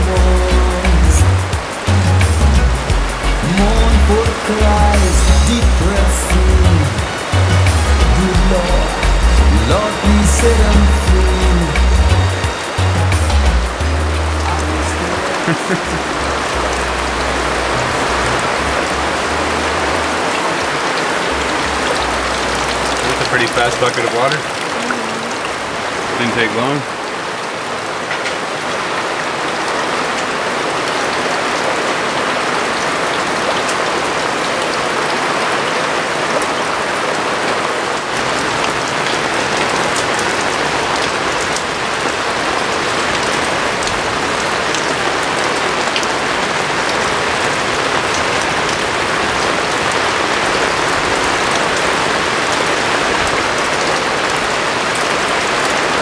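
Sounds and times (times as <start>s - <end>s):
heavy rain on canvas: 0.0s - 56.0s.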